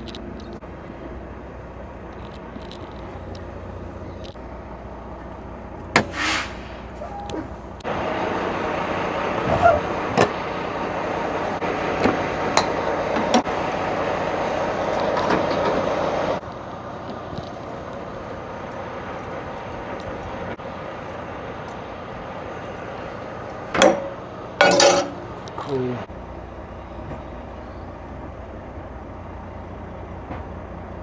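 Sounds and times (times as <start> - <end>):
vehicle running noise: 0.0 - 31.0.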